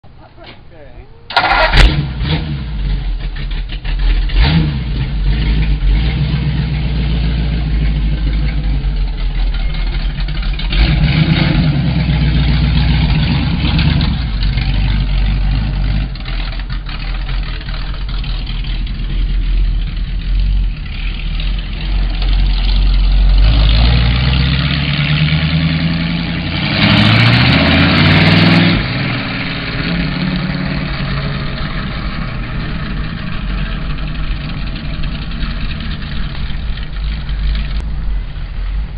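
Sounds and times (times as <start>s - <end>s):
car engine idling and revving: 1.3s - 38.9s.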